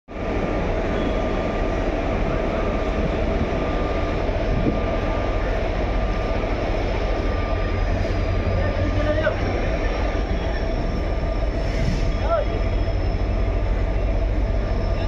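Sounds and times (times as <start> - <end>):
train approaching rumble: 0.1 - 15.0.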